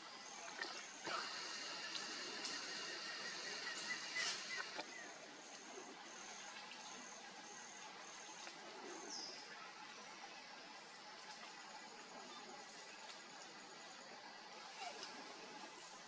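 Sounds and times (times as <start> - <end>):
insects buzzing and chirping: 0.0 - 16.0.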